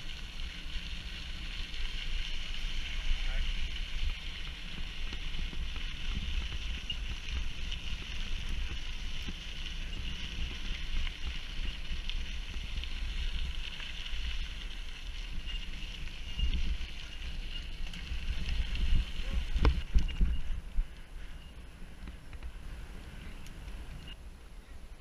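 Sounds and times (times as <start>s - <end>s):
tyres ticking on gravel: 0.0s - 24.2s
wind noise on microphone: 0.0s - 25.0s.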